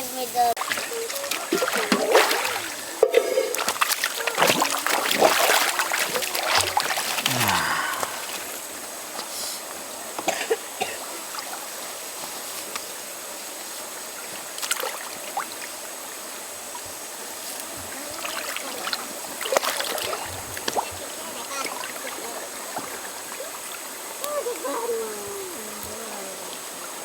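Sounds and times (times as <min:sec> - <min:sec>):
river water flowing: 0:00.1 - 0:27.0.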